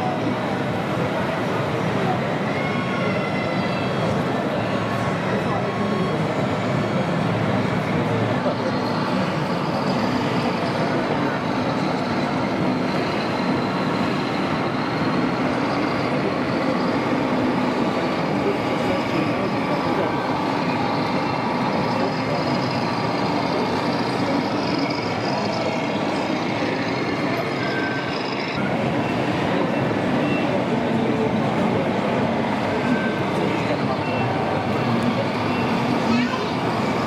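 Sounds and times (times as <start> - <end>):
crowd chatter: 0.0 - 37.0.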